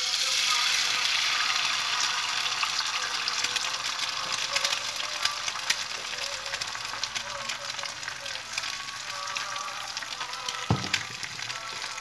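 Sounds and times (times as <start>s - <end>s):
egg sizzling in oil: 0.0s - 12.0s
oil popping and crackling: 0.0s - 12.0s.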